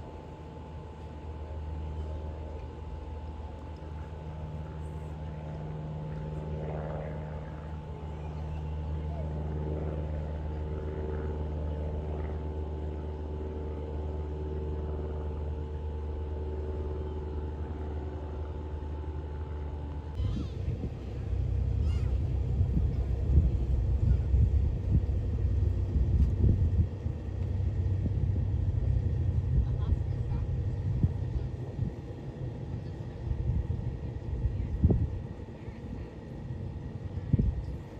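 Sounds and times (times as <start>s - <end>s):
aircraft piston engine running: 0.0s - 37.9s
uneven low rumble in gusts: 0.0s - 37.9s.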